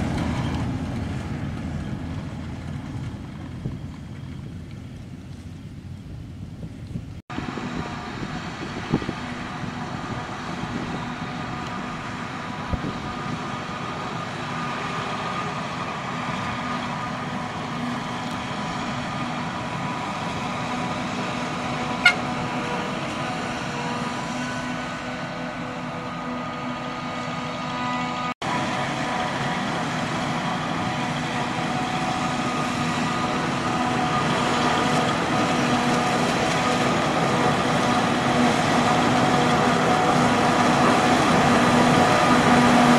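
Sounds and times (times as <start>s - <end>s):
harvester engine drone: 0.0s - 42.9s.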